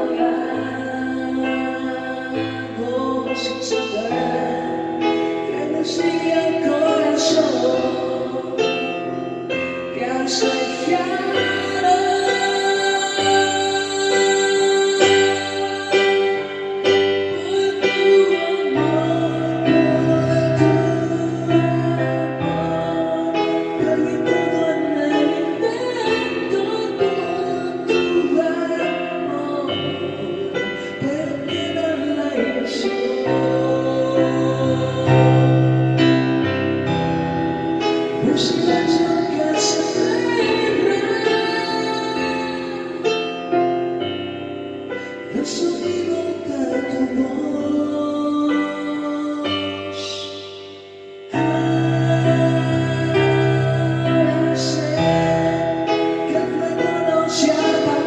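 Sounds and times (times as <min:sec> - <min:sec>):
romantic ballad music: 0:00.0 - 0:58.0.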